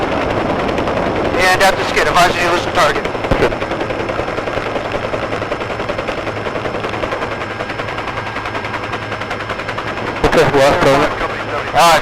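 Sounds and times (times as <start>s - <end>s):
helicopter engine hum: 0.0s - 12.0s
helicopter rotor chopping: 0.0s - 12.0s.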